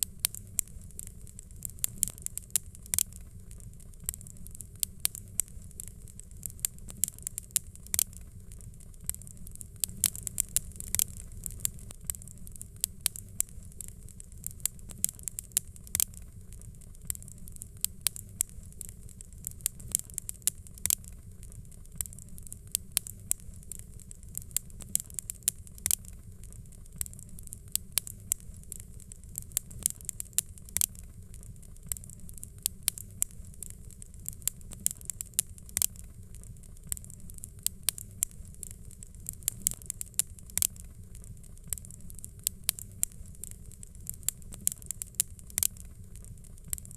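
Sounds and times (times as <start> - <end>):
low rumble of burning: 0.0 - 46.9
wood fire crackling: 0.0 - 46.9.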